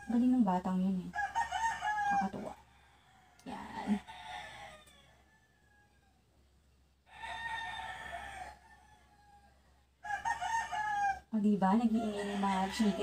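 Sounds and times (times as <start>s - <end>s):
rooster crowing: 1.1s - 6.2s, 7.1s - 11.3s, 11.9s - 13.0s.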